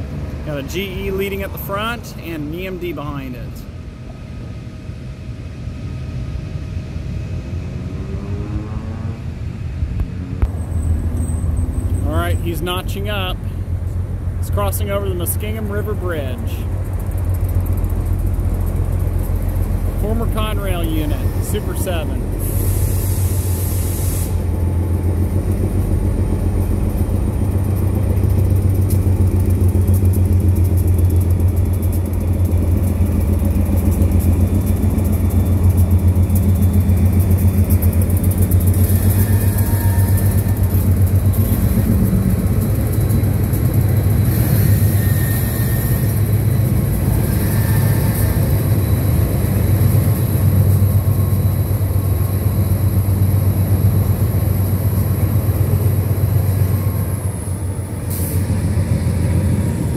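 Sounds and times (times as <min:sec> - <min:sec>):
diesel locomotive rumble: 0:00.0 - 0:59.9
rail noise: 0:00.0 - 0:59.9.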